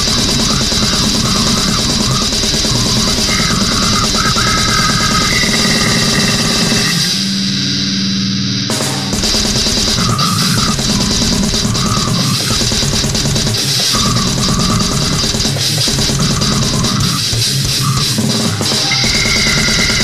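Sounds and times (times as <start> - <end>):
fast drumming: 0.0 - 7.2, 8.7 - 20.0
heavy metal music: 0.0 - 20.0.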